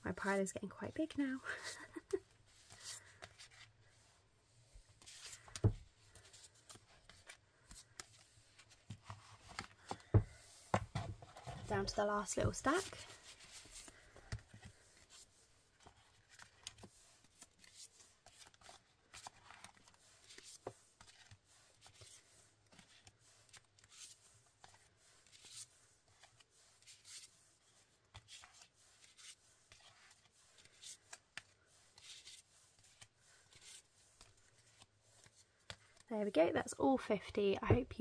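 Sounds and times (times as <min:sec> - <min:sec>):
cards rustling and sliding: 0:01.6 - 0:11.7, 0:12.7 - 0:36.1.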